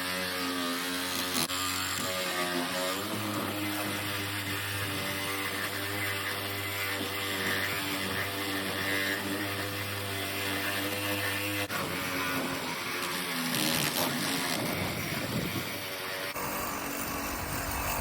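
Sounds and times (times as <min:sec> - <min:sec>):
reciprocating saw cutting metal: 0:00.0 - 0:18.0.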